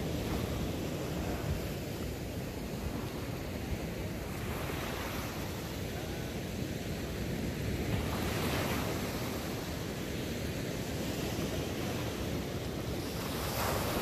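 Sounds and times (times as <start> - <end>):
small waves breaking on sand: 0.0 - 14.0.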